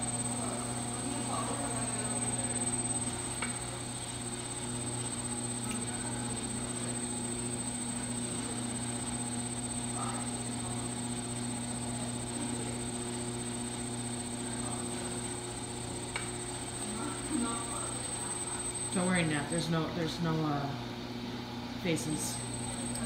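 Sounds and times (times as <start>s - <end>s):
potter's wheel humming: 0.0s - 23.0s.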